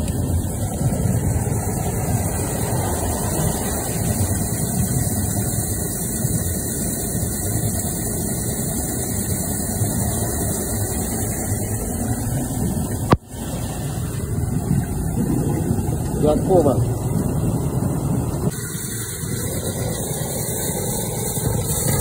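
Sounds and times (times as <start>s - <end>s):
drain jetter running: 0.0s - 22.0s.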